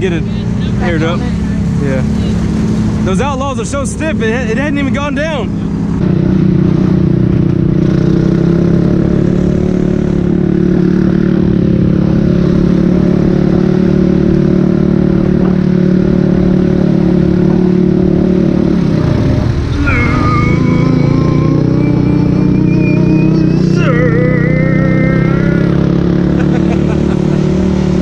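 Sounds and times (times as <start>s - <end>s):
quad bike engine running: 4.5s - 28.0s.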